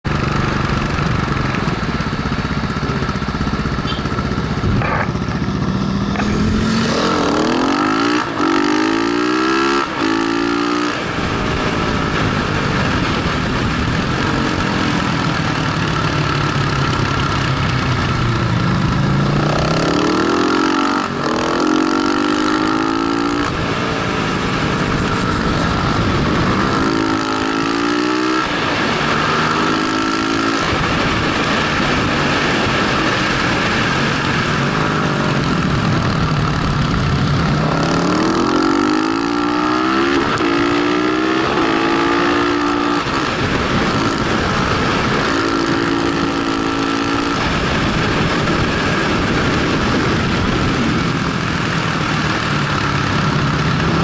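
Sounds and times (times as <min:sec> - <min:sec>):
motorcycle engine revving: 0:00.0 - 0:54.0
wind noise: 0:00.1 - 0:54.0.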